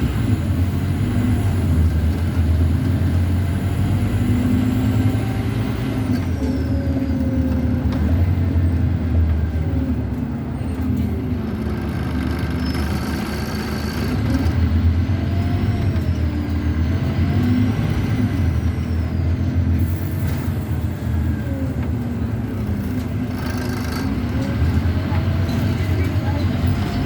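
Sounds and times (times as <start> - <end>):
bus diesel engine: 0.0 - 27.0.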